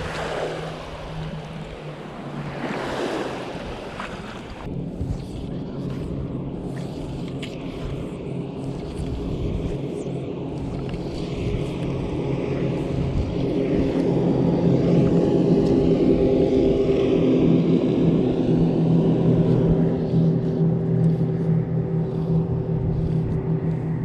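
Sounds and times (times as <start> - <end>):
propeller hum: 0.0 - 24.0.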